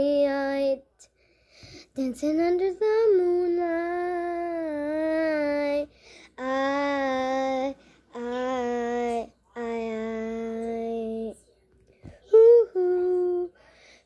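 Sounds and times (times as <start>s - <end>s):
girl singing unaccompanied: 0.0s - 1.0s, 1.7s - 11.4s, 12.1s - 13.6s.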